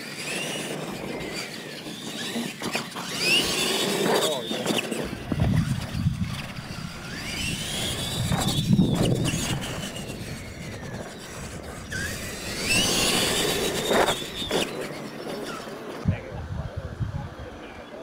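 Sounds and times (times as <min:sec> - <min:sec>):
toy truck motors whining: 0:00.0 - 0:16.1.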